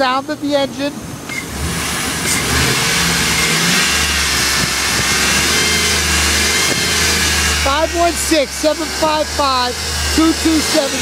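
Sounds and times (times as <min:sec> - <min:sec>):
car engine running: 0:00.4 - 0:11.0.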